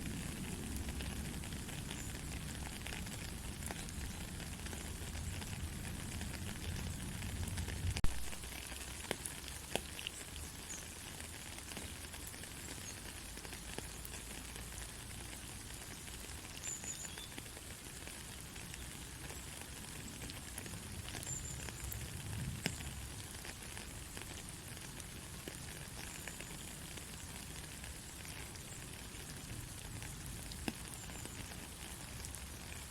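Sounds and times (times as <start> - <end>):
soft steady rain: 0.0 - 32.9.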